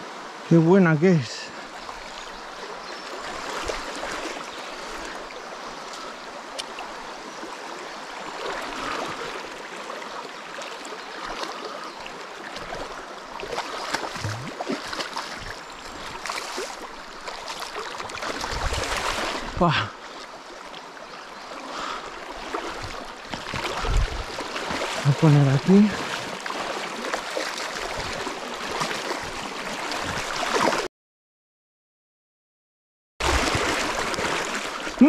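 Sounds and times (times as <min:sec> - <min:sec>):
river water rushing and babbling: 0:00.0 - 0:30.9, 0:33.2 - 0:35.0.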